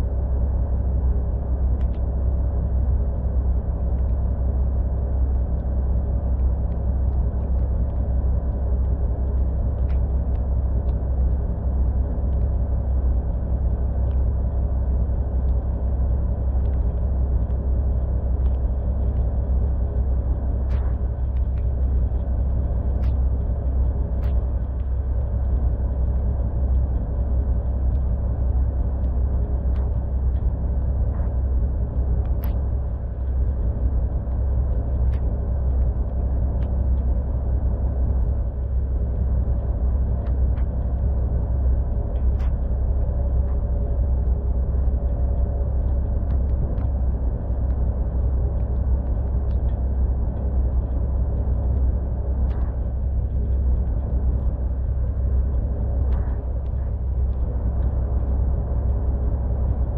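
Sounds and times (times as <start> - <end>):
faint ticks: 1.6 - 2.1, 5.2 - 15.9, 16.5 - 17.6, 18.2 - 31.4, 32.2 - 59.9.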